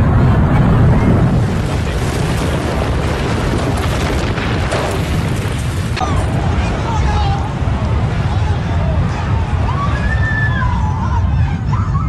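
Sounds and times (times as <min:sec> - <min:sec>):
building collapsing roar: 0:00.0 - 0:12.0.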